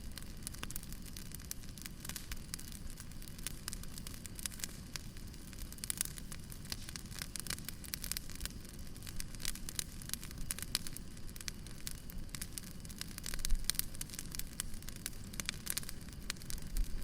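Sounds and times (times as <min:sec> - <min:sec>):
burning logs crackling and popping: 0:00.0 - 0:17.0
rumble of flames: 0:00.0 - 0:17.0.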